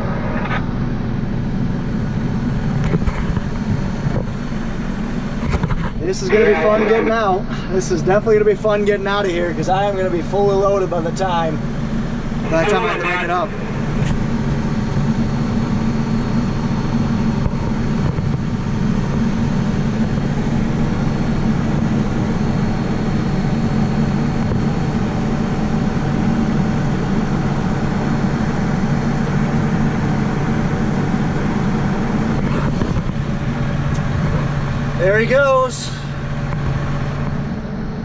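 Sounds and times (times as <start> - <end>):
tractor engine droning: 0.0 - 38.0.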